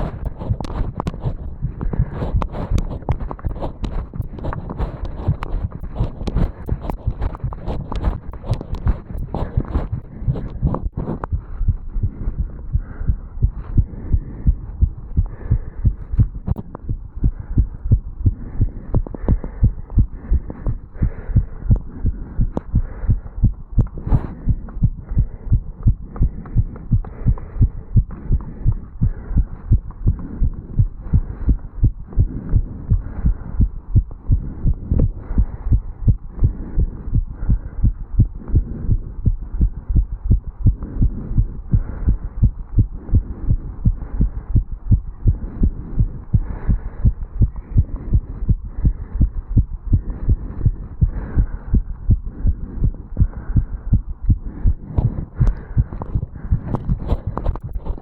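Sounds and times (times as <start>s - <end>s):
heartbeat thuds: 0.0s - 58.0s.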